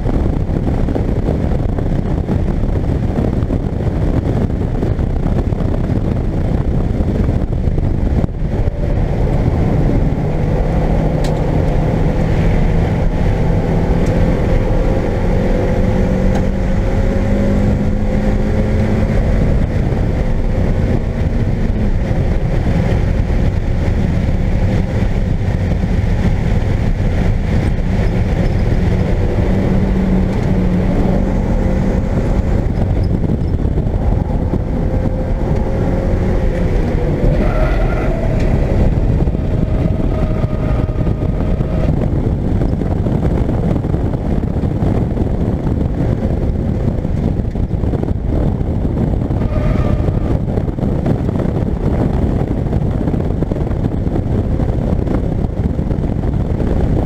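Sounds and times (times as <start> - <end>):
car engine at high revs: 0.0 - 57.0
road and wind noise: 0.0 - 57.0.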